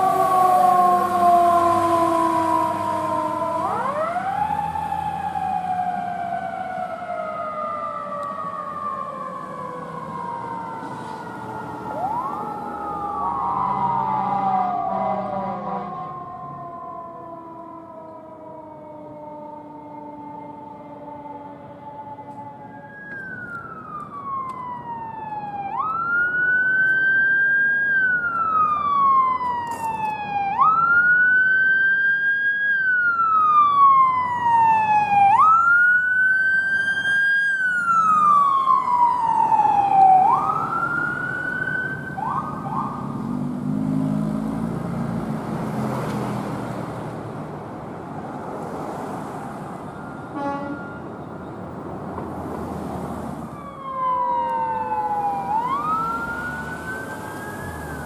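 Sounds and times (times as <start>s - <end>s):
siren chirps: 0.0s - 44.4s, 49.4s - 51.9s, 53.4s - 58.0s
emergency vehicle siren wailing: 0.0s - 58.0s
passing vehicle rumble: 0.0s - 58.0s.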